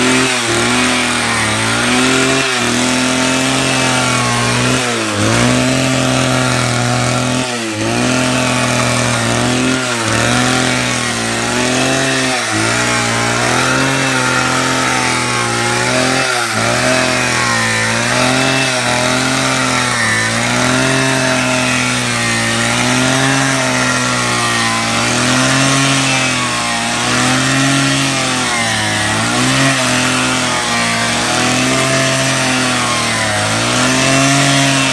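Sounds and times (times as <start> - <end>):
electric drill motor humming: 0.0 - 34.9.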